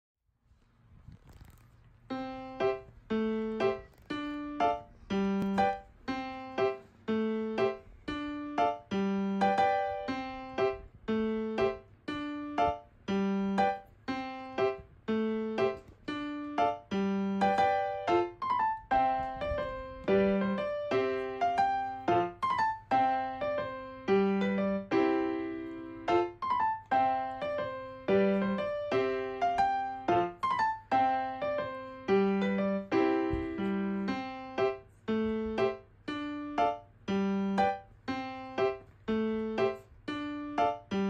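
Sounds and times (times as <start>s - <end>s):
light piano melody: 1.3s - 41.0s.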